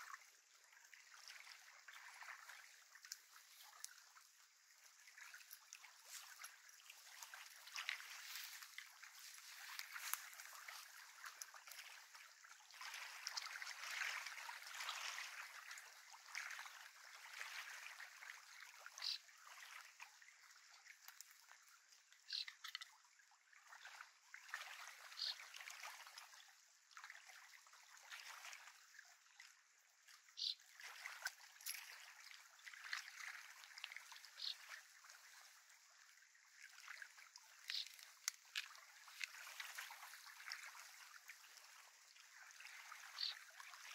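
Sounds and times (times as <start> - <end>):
small waves lapping: 0.0 - 43.9.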